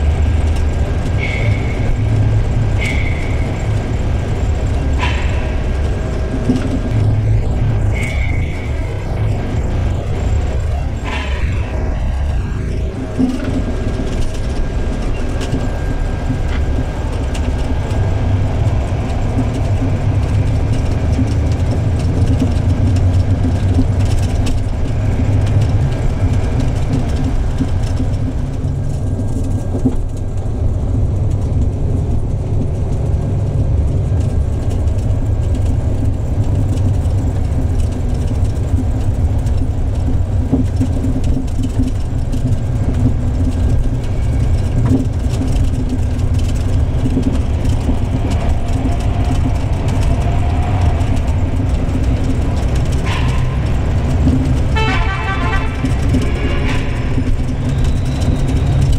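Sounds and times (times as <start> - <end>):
bus diesel engine rumbling: 0.0 - 58.9.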